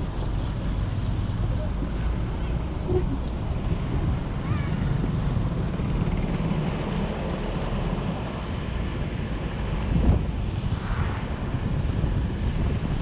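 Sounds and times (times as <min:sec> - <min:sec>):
wind buffeting microphone: 0:00.0 - 0:06.9, 0:07.9 - 0:13.0
road rumble: 0:00.0 - 0:13.0.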